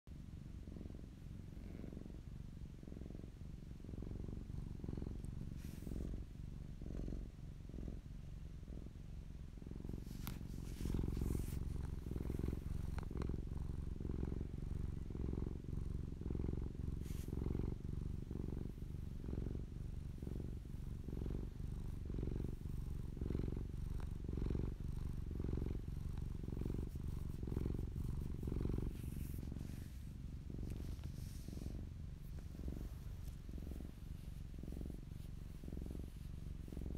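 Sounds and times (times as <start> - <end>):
cat purring: 0.1 - 36.9.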